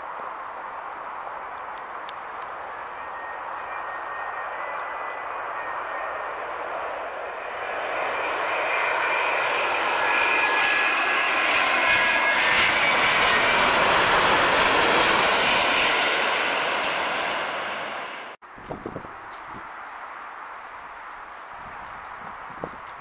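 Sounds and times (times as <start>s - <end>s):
high jet engine whine: 0.0s - 23.0s
jet engines passing close: 0.0s - 23.0s.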